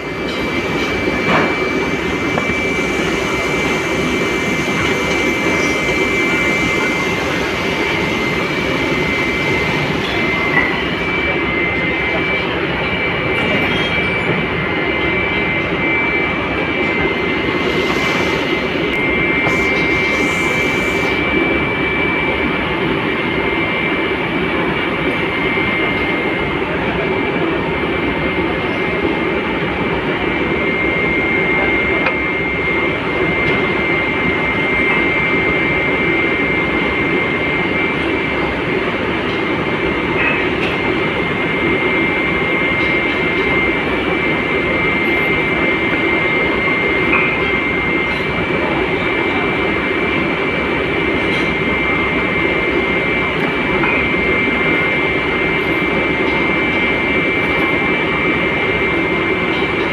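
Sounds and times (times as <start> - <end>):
foundry machinery drone: 0.0 - 59.9
high whine: 0.0 - 59.9.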